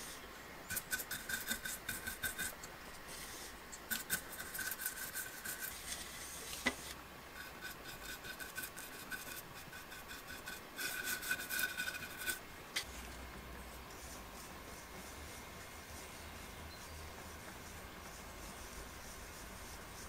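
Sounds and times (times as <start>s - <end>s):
paintbrush scrubbing wood: 0.0s - 20.0s.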